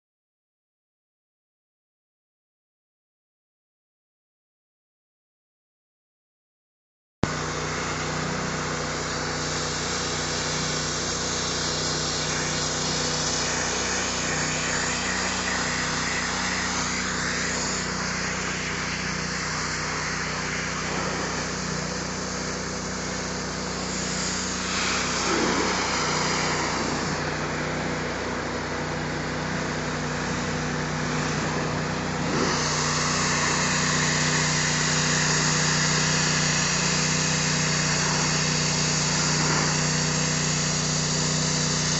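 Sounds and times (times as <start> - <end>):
pressure washer engine running: 7.2 - 41.9
high-pressure water jet hissing: 7.3 - 41.9.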